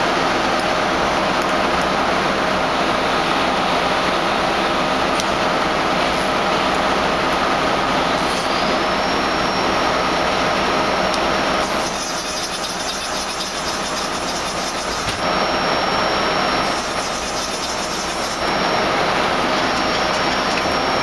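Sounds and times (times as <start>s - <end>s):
lathe running: 0.0s - 21.0s
faint high whine: 2.5s - 21.0s.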